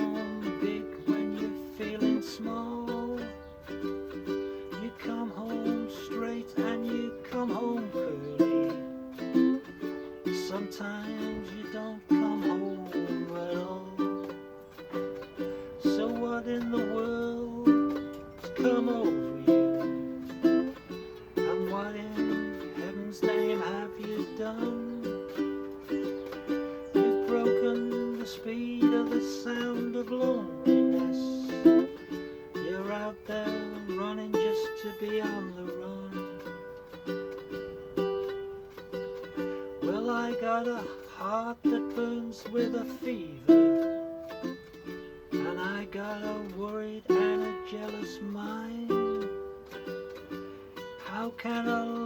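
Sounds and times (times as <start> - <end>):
acoustic plucked string melody: 0.0 - 52.0.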